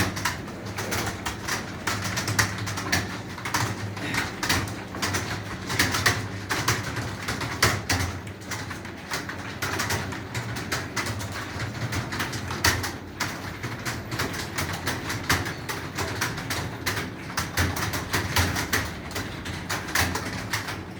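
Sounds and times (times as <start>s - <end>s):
computer keyboards clicking: 0.0s - 20.9s.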